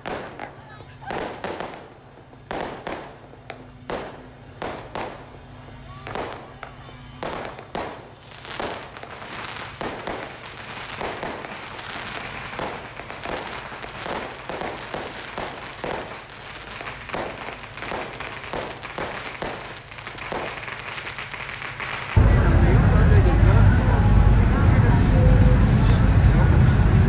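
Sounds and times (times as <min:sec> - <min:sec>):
fireworks bangs and crackles: 0:00.0 - 0:25.2.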